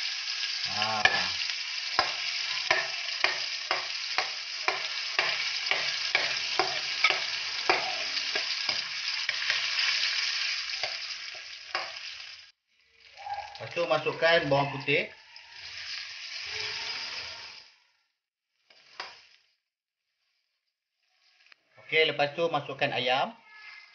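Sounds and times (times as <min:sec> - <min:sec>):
paste sizzling in hot oil: 0:00.0 - 0:17.8, 0:18.5 - 0:21.7.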